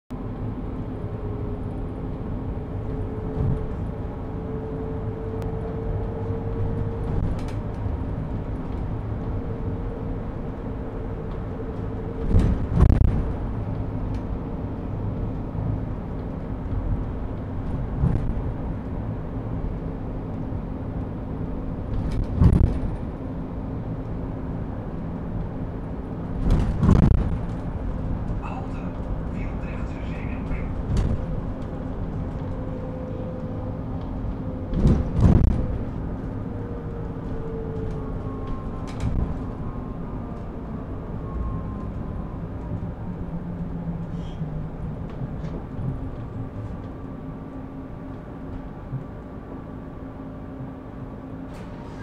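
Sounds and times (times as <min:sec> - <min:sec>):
bus ride rumble: 0:00.1 - 0:52.0.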